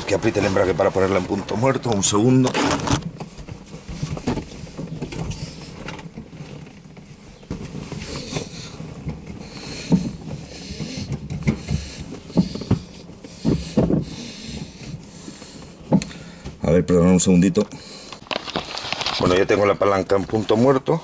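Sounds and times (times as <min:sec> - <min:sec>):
rustling: 0:00.0 - 0:16.5, 0:17.6 - 0:21.0.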